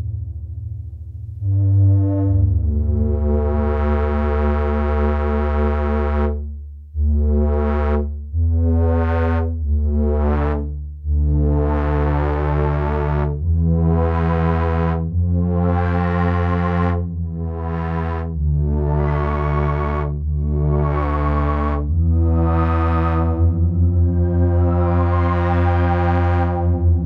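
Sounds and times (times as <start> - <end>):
deep synth bass note: 0.0 - 27.0
synth keyboard chords: 0.0 - 27.0.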